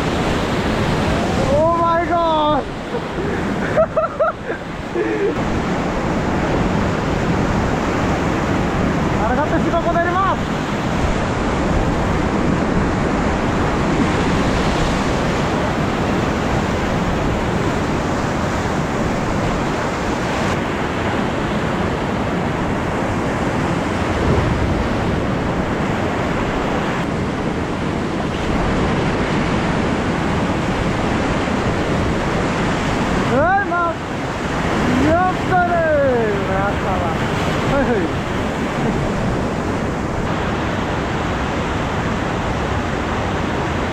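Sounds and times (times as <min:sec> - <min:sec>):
whitewater rushing in a river rapid: 0:00.0 - 0:43.9.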